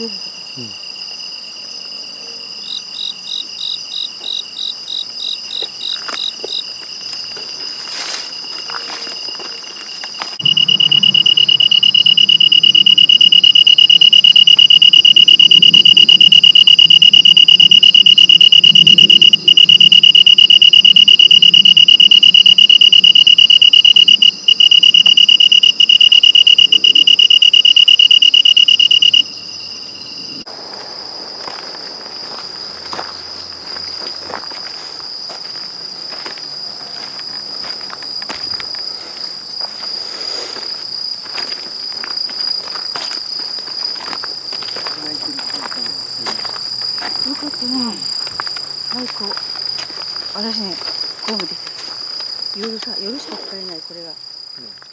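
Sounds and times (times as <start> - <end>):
chorus of distant crickets: 0.0 - 54.9
cricket trilling close up: 0.0 - 54.9.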